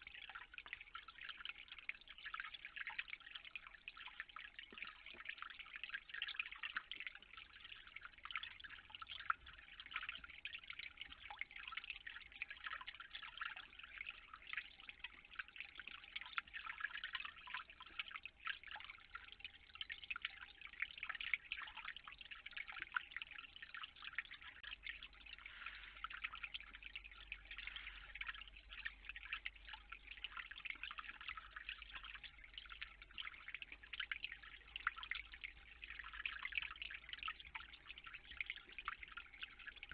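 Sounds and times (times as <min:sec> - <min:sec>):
water dripping and pattering: 0:00.0 - 0:39.9.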